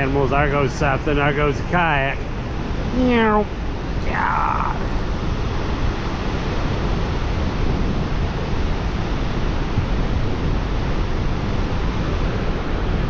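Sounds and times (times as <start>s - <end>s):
water rushing over dam: 0.0s - 13.0s.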